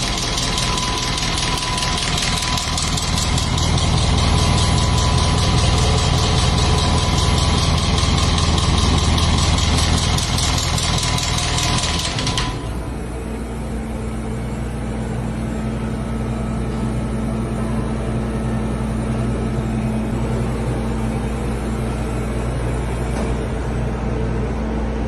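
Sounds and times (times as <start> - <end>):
diesel engine idling: 0.0 - 24.4.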